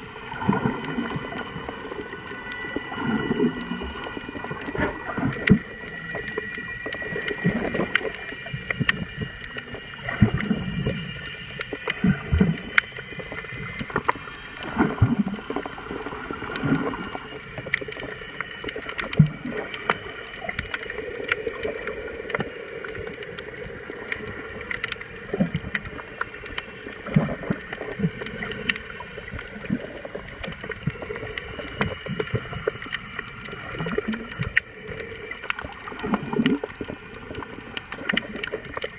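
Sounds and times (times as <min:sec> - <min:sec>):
high whining underwater hum: 0:00.0 - 0:38.9.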